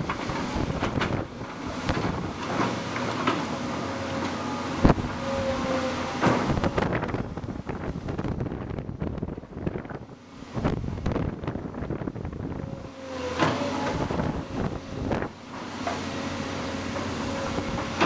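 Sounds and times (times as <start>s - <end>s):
excavator diesel engine running: 0.0s - 18.0s
hydraulic whine: 0.0s - 18.0s.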